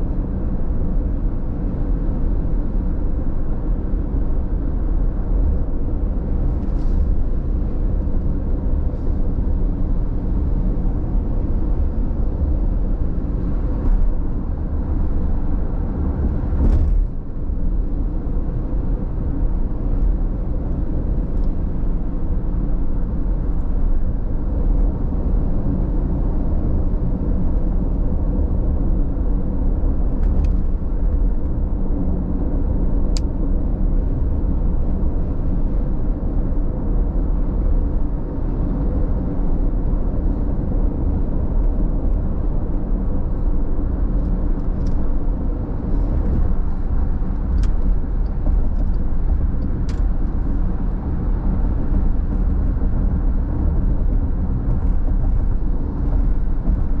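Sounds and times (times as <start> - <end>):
road and tyre noise in car: 0.0 - 57.0.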